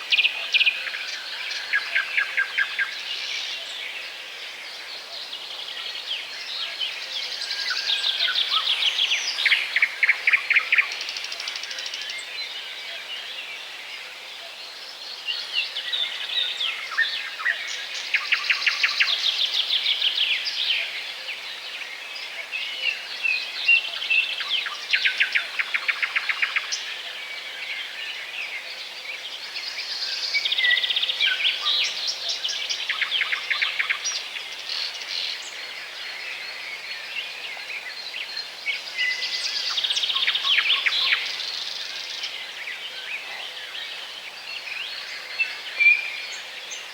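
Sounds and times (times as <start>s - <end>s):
songbirds trilling and chirping: 0.0s - 46.9s.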